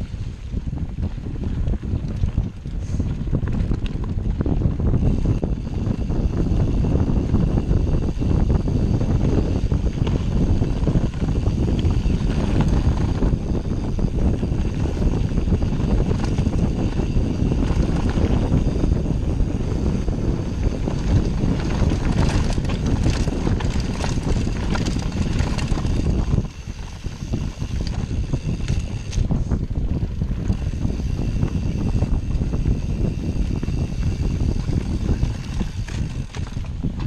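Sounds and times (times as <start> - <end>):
bike tyres rolling on dirt: 0.0 - 37.0
wind buffeting microphone: 0.0 - 37.0
bike clattering over rough ground: 1.2 - 37.0.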